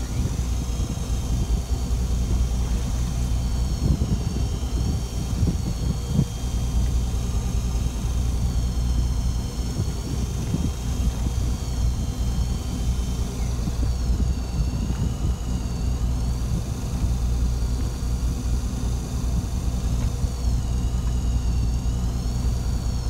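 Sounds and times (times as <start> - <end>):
boat engine rumbling: 0.0 - 23.0
faint high whine: 0.0 - 23.0.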